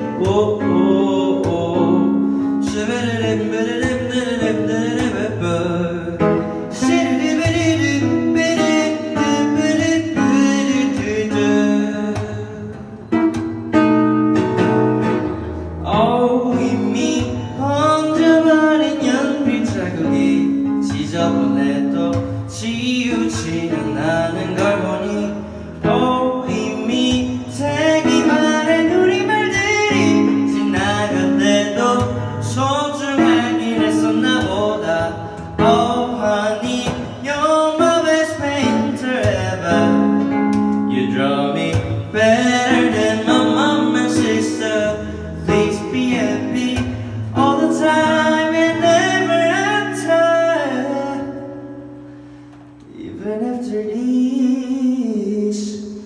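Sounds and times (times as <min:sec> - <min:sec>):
person singing: 0:00.0 - 0:13.8, 0:15.3 - 0:51.6
acoustic guitar: 0:00.0 - 0:56.0.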